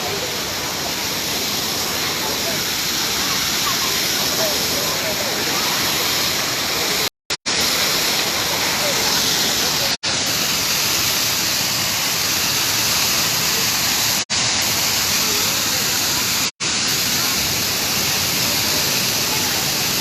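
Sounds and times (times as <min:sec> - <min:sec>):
waterfall pouring: 0:00.0 - 0:20.0.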